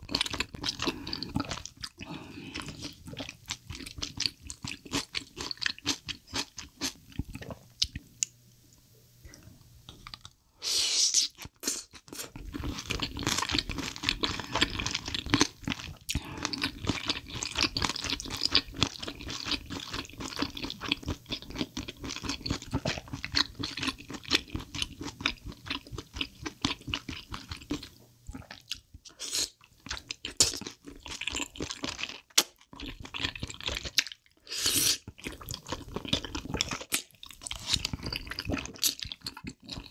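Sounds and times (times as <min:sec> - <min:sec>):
wet chewing: 0:00.0 - 0:08.0, 0:11.3 - 0:39.9.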